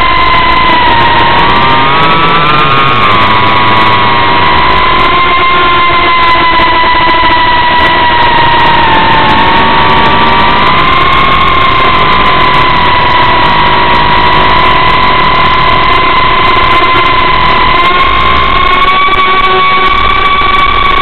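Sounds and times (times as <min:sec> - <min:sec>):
drone motors whining: 0:00.0 - 0:21.0
rushing noise: 0:00.0 - 0:21.0.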